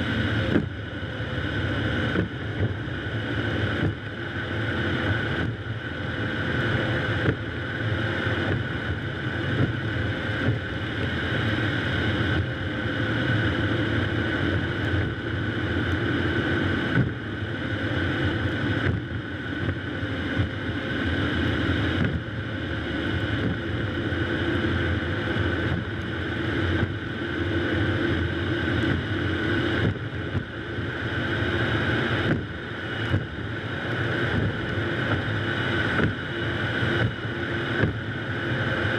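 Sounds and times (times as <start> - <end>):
car engine running: 0.0 - 38.9
road and tyre noise: 0.0 - 38.9.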